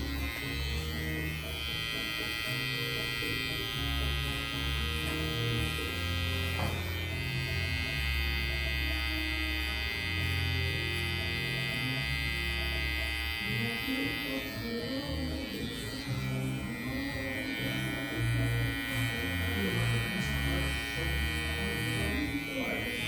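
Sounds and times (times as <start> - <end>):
hair clipper buzzing: 0.0 - 23.0.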